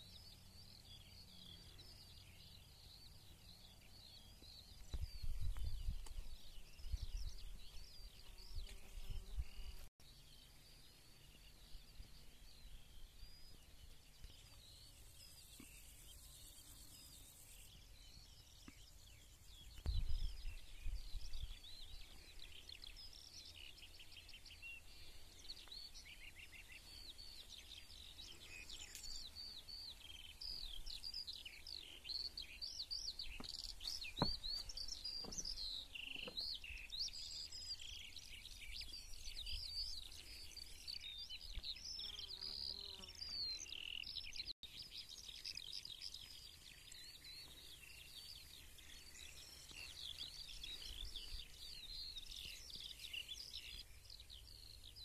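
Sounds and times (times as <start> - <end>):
birds singing: 0.0 - 55.0.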